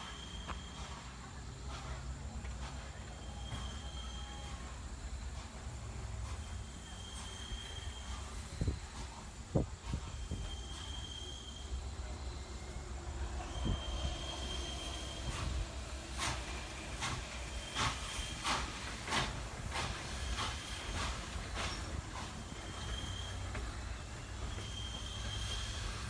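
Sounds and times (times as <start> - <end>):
steam locomotive exhaust beats: 0.0 - 26.0.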